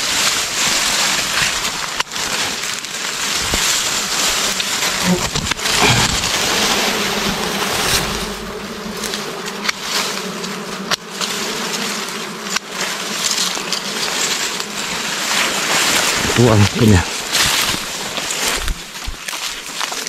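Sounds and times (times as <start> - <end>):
rustling of grass and leaves: 0.0 - 20.0
bees buzzing: 3.0 - 19.1.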